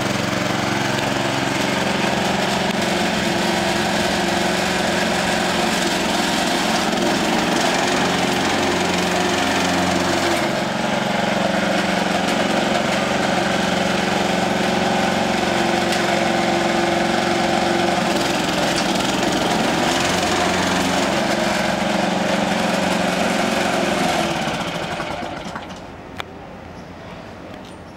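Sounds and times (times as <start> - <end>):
small engine running: 0.0 - 25.9.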